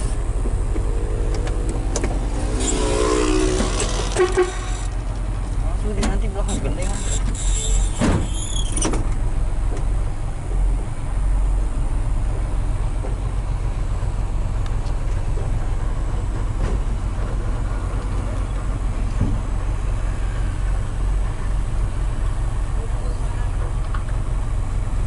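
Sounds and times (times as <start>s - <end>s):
diesel engine rumble: 0.0s - 25.0s.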